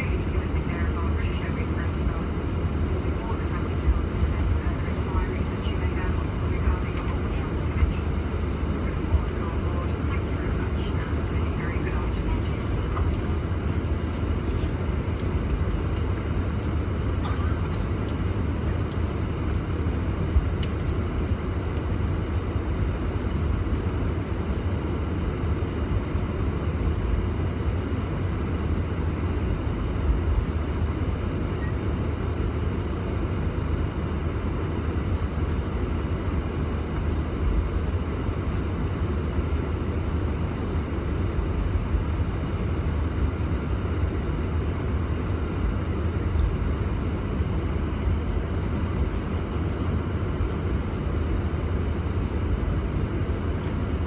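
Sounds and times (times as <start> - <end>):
jet engines at low power: 0.0 - 54.0.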